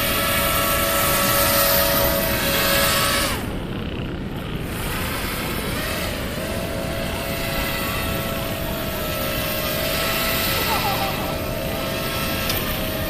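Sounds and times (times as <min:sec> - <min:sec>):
airboat motors whining: 0:00.0 - 0:13.0.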